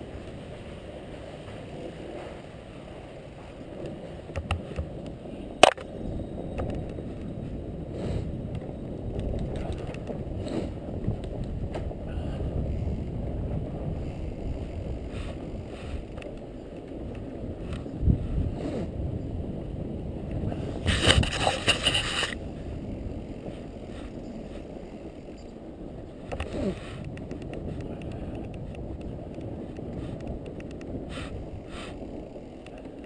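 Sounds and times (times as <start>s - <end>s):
bike clicks and rattles: 0.0s - 33.0s
bike tyres rumbling on snow: 0.0s - 33.0s.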